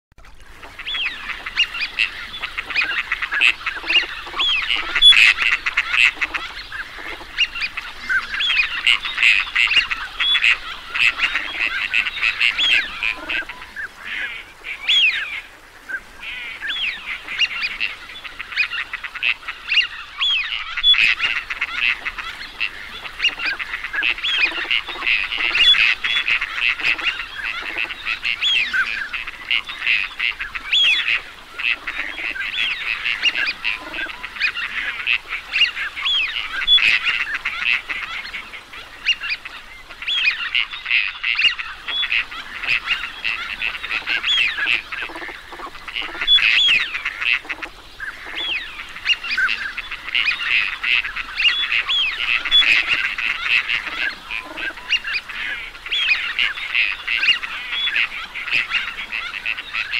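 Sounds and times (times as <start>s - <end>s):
flock of teal calling: 0.4s - 59.9s.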